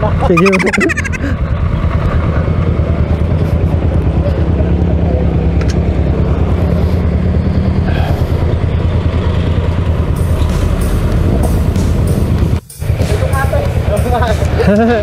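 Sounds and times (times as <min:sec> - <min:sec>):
motorcycle engines rumbling: 0:00.0 - 0:15.0
road traffic passing: 0:00.0 - 0:15.0.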